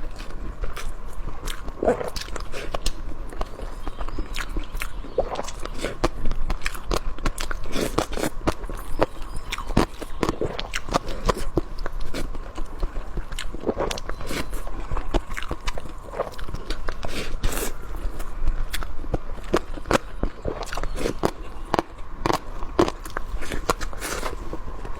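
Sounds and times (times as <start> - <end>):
person chewing crunchy food: 0.0 - 24.9.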